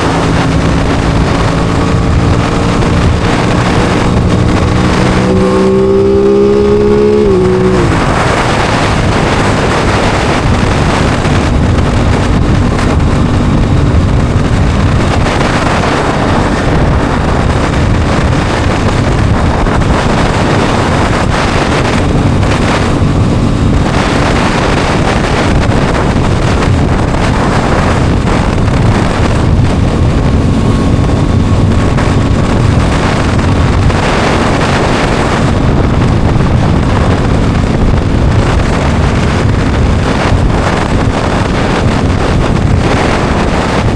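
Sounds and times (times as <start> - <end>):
motorcycle engine running: 0.0 - 43.9
wind rush on microphone: 0.0 - 43.9.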